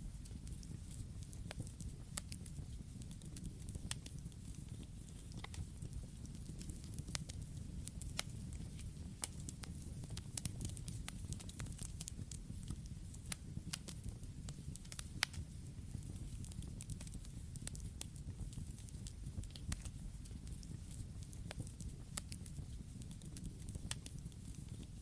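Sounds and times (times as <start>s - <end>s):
low rumble of flames: 0.0s - 25.0s
campfire crackling and popping: 0.2s - 25.0s.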